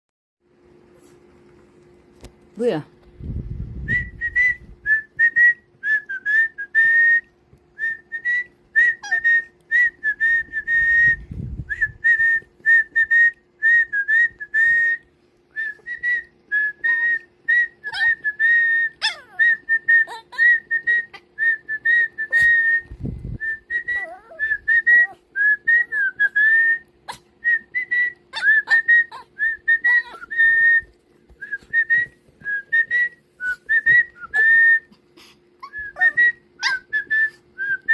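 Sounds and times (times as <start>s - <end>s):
person whistling: 3.8s - 15.0s, 15.6s - 26.8s, 27.4s - 34.9s, 35.6s - 37.9s.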